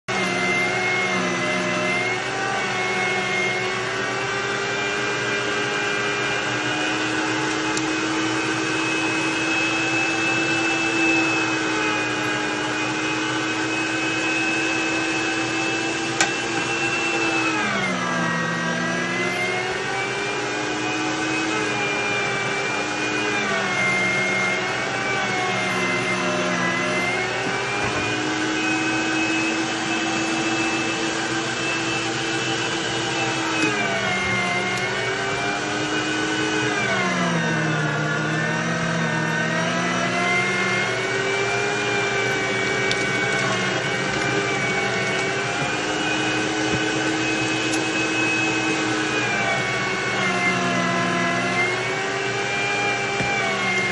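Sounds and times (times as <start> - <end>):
small electric motor whining: 0.1 - 53.9.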